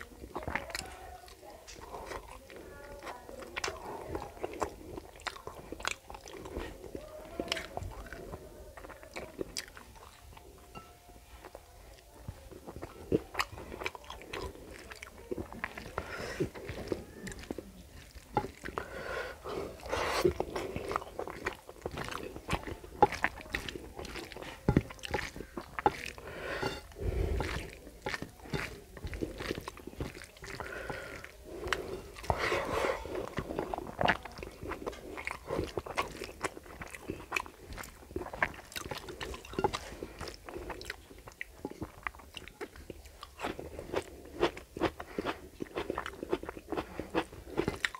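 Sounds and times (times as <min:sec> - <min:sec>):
chewing and mouth smacks: 0:00.0 - 0:10.7, 0:11.4 - 0:47.9
fingers mixing food on plate: 0:00.0 - 0:47.9.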